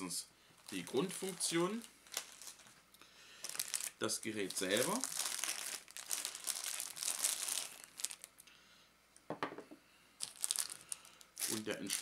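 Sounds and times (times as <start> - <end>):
plastic bag crinkling: 0.6 - 8.4, 10.2 - 12.0.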